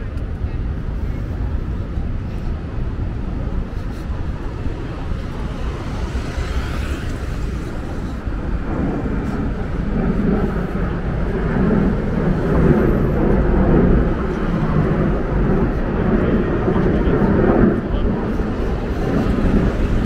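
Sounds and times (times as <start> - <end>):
traffic rumble of passing cars: 0.0 - 20.0.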